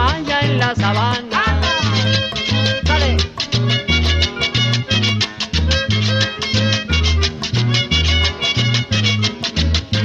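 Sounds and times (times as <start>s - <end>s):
bass line: 0.0s - 10.0s
strummed guitars: 0.0s - 10.0s.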